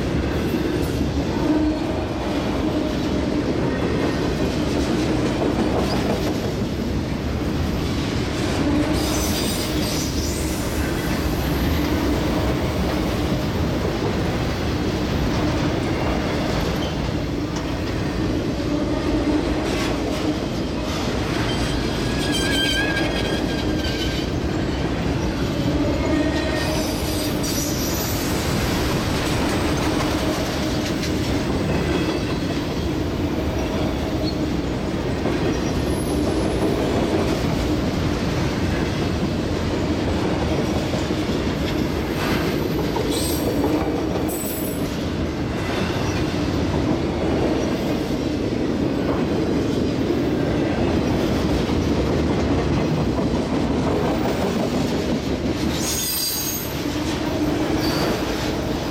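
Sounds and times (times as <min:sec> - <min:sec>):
train wheels clattering on rails: 0:00.0 - 0:58.9.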